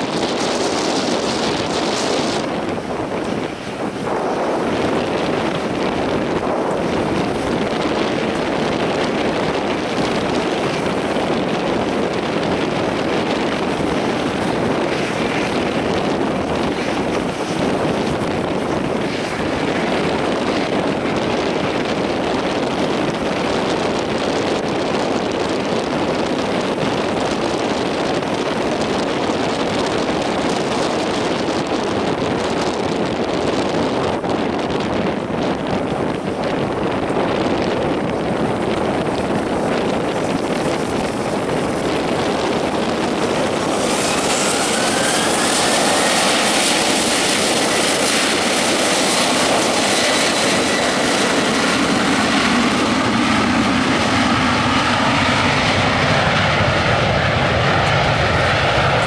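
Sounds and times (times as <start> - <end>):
jet engines idling: 0.0 - 59.0
wind on microphone: 0.0 - 59.0.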